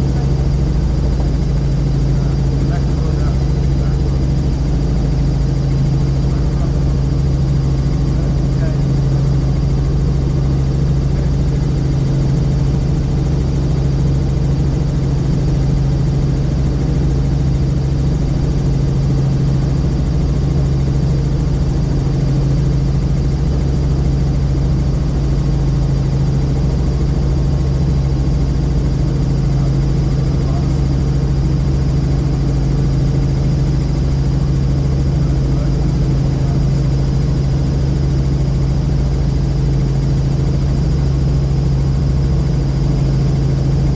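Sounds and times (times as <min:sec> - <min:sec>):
helicopter rotor and engine drone: 0:00.0 - 0:43.9.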